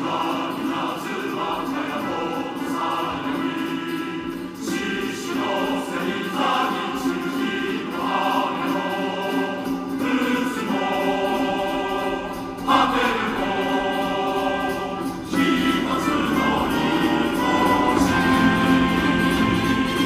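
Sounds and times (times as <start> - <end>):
choir-like music on car stereo: 0.0 - 20.0.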